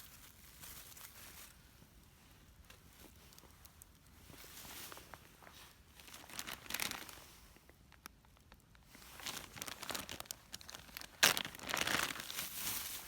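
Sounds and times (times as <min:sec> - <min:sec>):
crinkling and rustling handling: 0:00.0 - 0:13.0.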